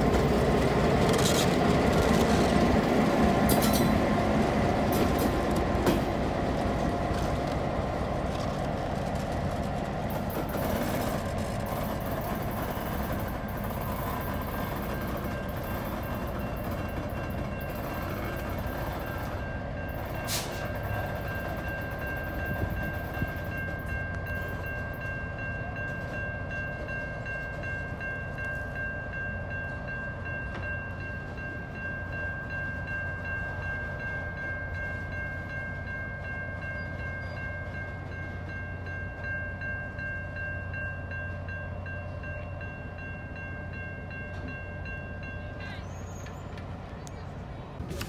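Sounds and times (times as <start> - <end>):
crossing signal ringing: 0.0 - 46.9
diesel locomotive rumbling: 0.0 - 48.0.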